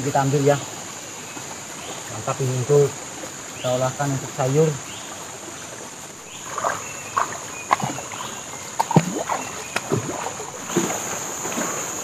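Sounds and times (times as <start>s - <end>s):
high insect drone: 0.0s - 12.0s
water splashing and sloshing: 0.0s - 12.0s.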